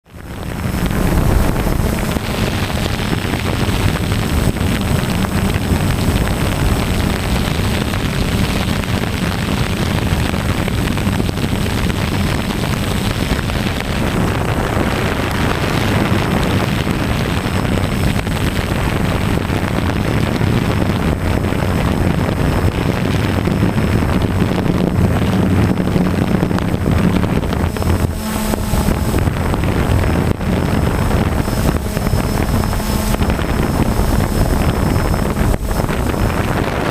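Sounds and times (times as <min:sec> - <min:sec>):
drone propellers buzzing: 0:00.0 - 0:36.9.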